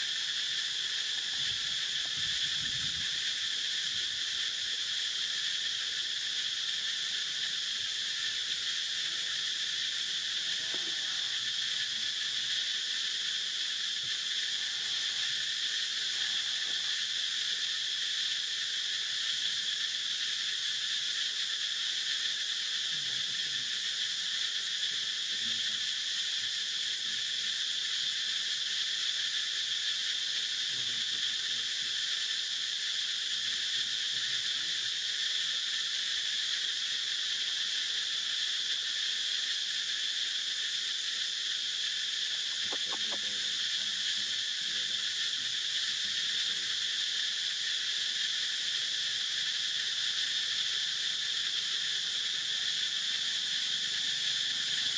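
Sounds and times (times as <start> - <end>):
insect chorus buzzing drone: 0.0 - 54.9.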